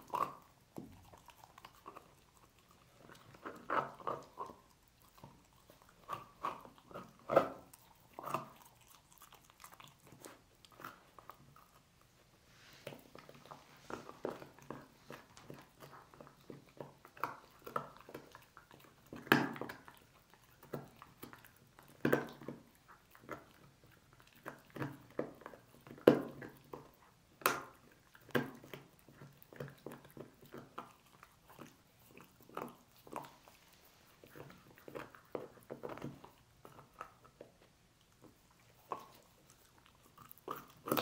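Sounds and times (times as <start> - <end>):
dog chewing on bone: 0.0 - 41.0.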